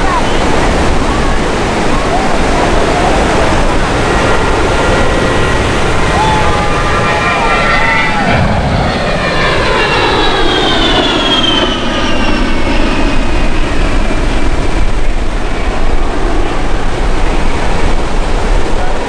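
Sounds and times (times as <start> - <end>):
jet flypast whine and rumble: 0.0 - 19.0.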